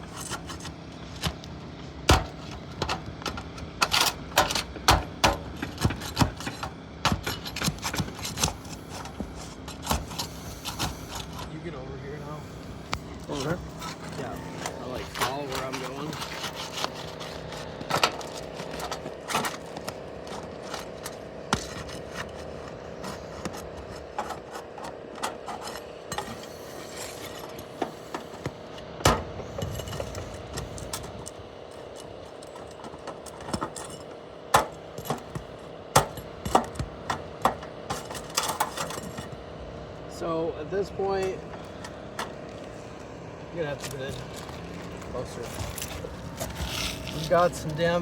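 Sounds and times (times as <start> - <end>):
footsteps on shingle roof: 0.0 - 11.5, 12.4 - 38.3, 43.8 - 48.0
knocks and scrapes: 2.1 - 11.6, 12.4 - 31.3, 32.0 - 39.4, 43.7 - 48.0.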